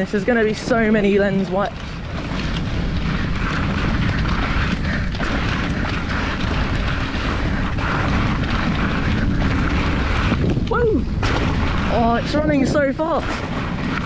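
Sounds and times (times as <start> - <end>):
bike rattling: 0.0 - 14.0
tyres on dirt: 0.0 - 14.0
wind rumble on microphone: 0.0 - 14.0.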